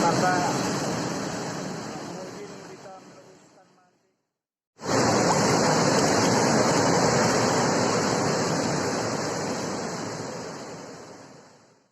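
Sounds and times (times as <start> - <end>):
floodwater rushing down river: 0.0 - 3.6, 4.8 - 11.5.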